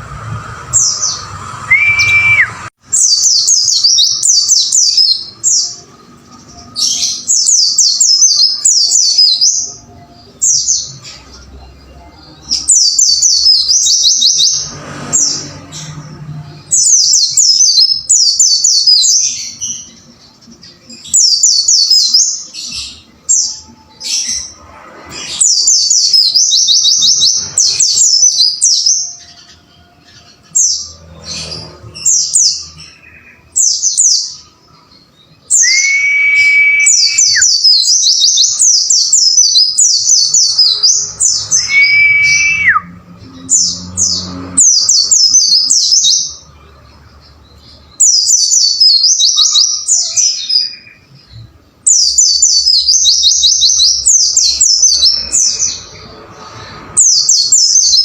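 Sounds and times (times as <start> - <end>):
bird singing rapid chirps: 0.0 - 58.0.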